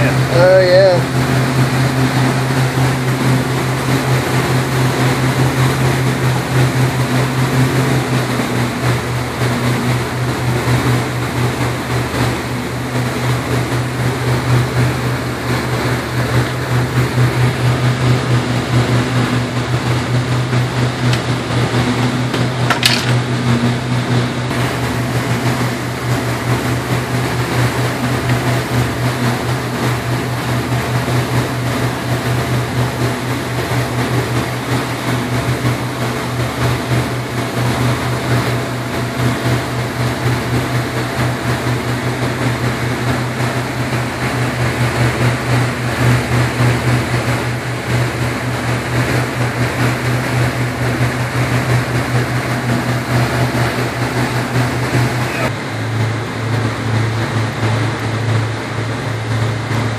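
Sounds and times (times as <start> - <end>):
boat engine droning: 0.0 - 59.9
wind and wake water rushing: 0.0 - 59.9.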